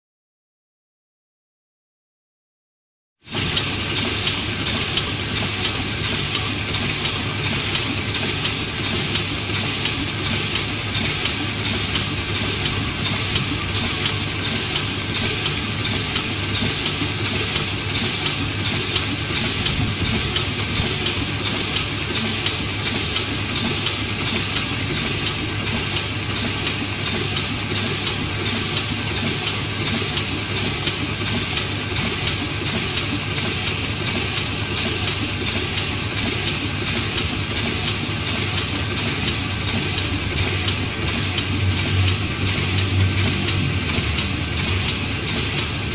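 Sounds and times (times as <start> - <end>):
printing press running: 3.3 - 45.9.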